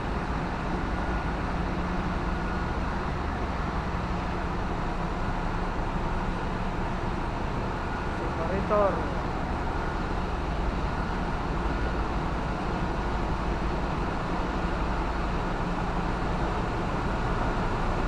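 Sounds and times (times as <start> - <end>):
engine room machinery drone: 0.0 - 18.0.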